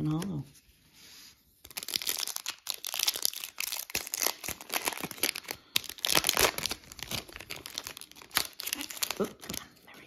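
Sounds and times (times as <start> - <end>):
foil wrapper crinkling and tearing: 1.6 - 9.7.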